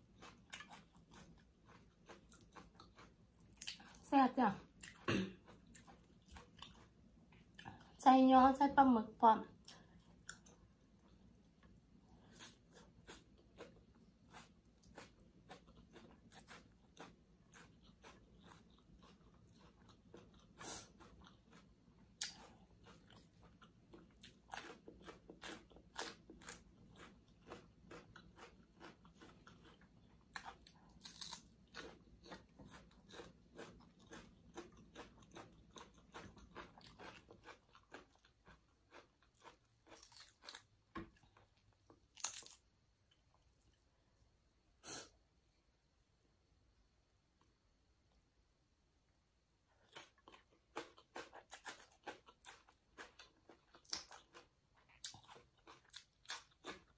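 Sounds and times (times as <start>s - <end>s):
chewing and crunching food: 0.0s - 8.6s, 9.2s - 44.0s, 49.6s - 56.9s.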